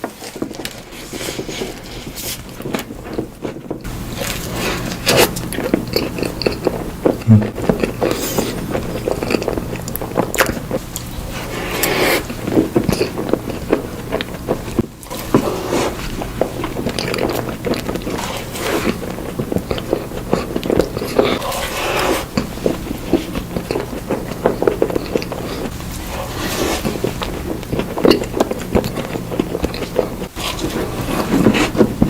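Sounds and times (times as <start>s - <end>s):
wet chewing and mouth smacking: 0.2s - 11.2s, 11.8s - 21.4s, 22.3s - 25.9s, 26.8s - 30.7s
steady low hum: 2.9s - 32.0s.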